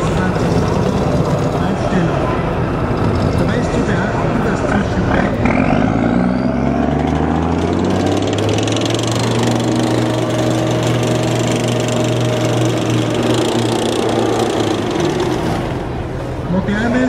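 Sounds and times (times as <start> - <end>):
tracked vehicles diesel engines: 0.0 - 17.0.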